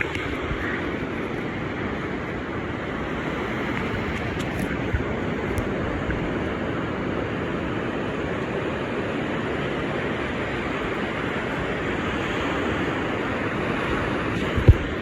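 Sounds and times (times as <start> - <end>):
ocean surf: 0.0 - 15.0
wind rumbling on microphone: 0.0 - 15.0.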